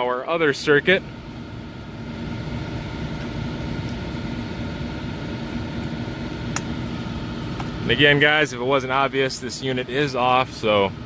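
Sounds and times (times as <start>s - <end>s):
faint steady hums: 0.0s - 11.0s
machinery droning: 0.0s - 11.0s.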